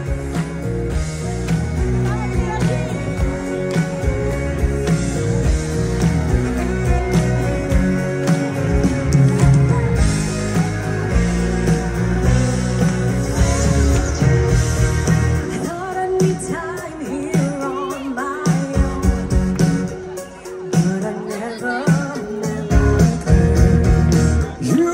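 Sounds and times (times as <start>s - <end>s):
live band with guitar: 0.0s - 24.9s.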